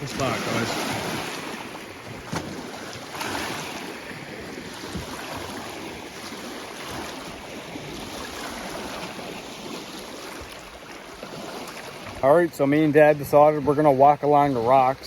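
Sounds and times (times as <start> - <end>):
choppy waves washing: 0.0 - 15.0.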